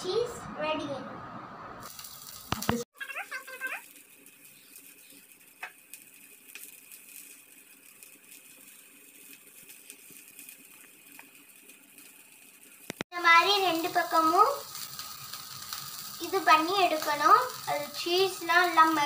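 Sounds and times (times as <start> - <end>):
patties sizzling on griddle: 1.8 - 19.0.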